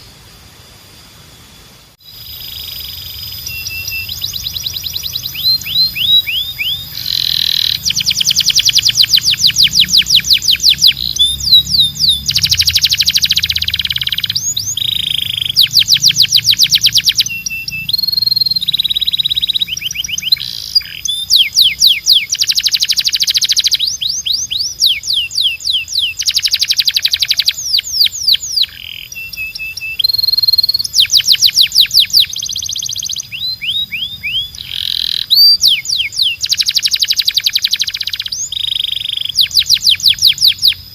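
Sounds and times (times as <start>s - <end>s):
canary singing: 2.0s - 40.9s.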